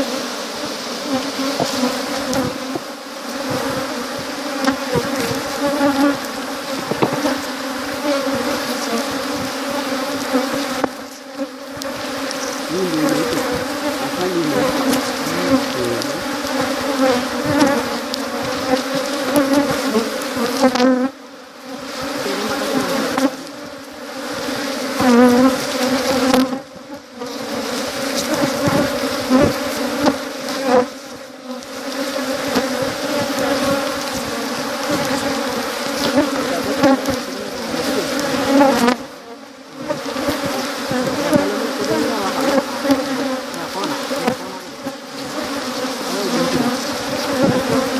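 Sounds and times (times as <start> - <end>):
honeybees buzzing: 0.0 - 47.9.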